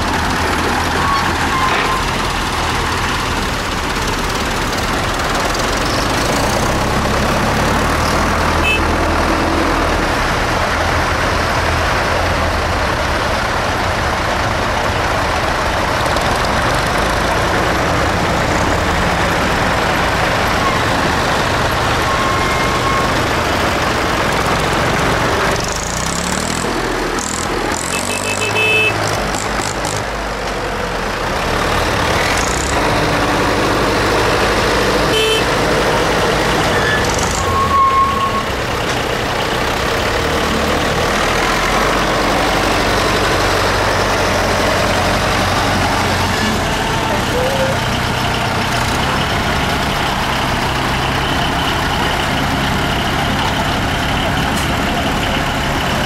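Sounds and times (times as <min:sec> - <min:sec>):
tractors driving past: 0:00.0 - 0:56.0.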